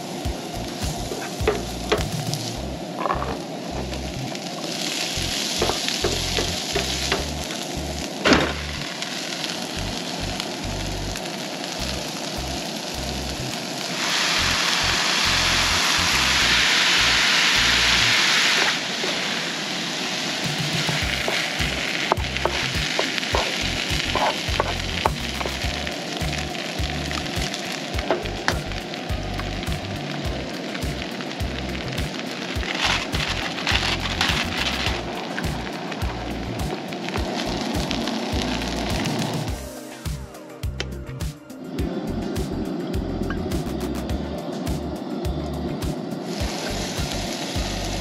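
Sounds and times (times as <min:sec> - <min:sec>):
food sizzling in a skillet: 0:00.0 - 0:48.0.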